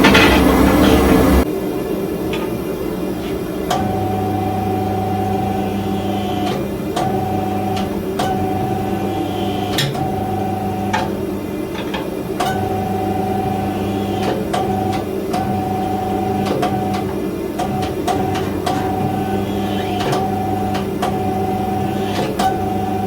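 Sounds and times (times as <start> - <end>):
hydraulic press pump whine: 0.0 - 23.0.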